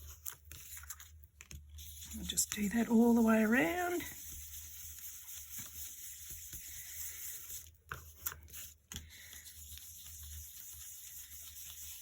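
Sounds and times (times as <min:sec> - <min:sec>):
rubbing and scuffing on cardstock: 0:00.0 - 0:12.0.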